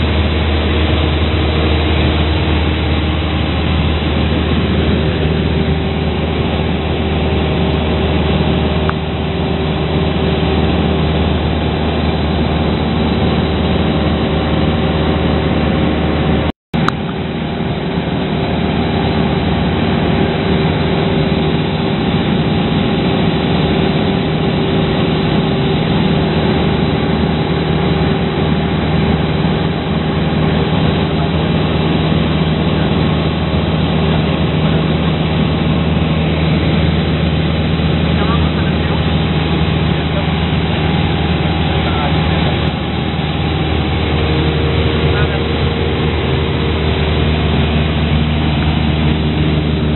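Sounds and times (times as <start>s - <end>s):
light aircraft engine drone: 0.0s - 49.9s
wind and airframe noise: 0.0s - 49.9s.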